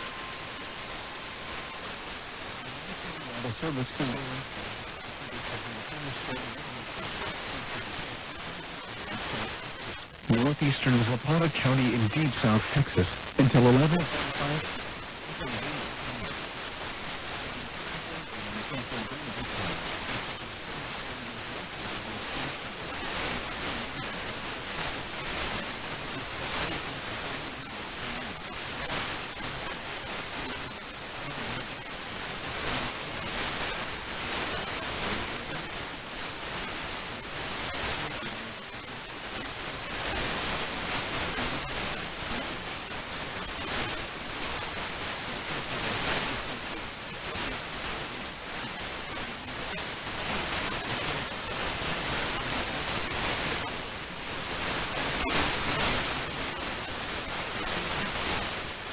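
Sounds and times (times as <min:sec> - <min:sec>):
radio static hiss: 0:00.0 - 0:58.9.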